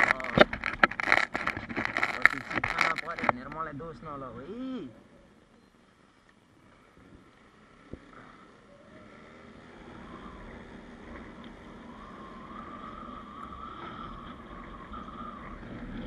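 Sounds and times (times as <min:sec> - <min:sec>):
car engine and road noise: 0:00.0 - 0:16.0
faint steady whine: 0:00.0 - 0:16.0.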